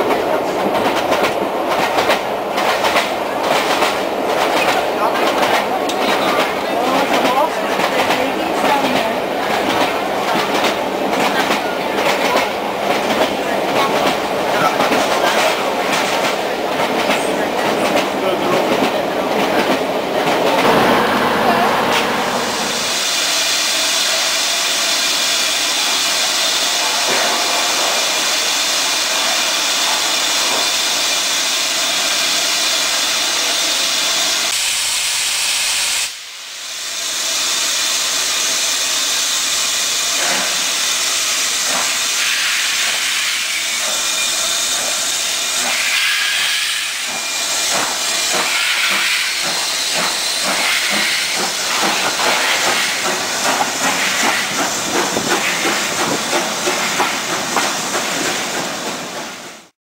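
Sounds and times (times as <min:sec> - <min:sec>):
steam train knocking past: 0:00.0 - 0:59.7
steam hissing: 0:01.2 - 0:59.7.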